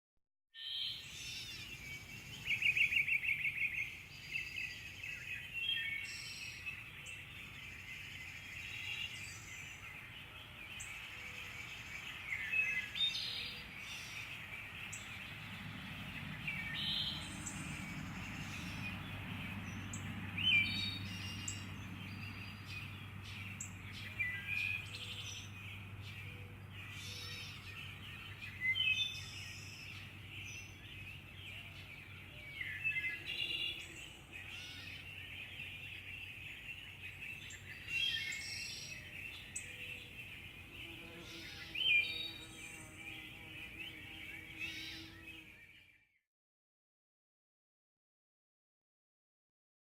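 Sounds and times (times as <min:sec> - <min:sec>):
bird trill: 0:00.6 - 0:15.4, 0:16.0 - 0:46.0
birds calling and chirping: 0:00.6 - 0:46.2.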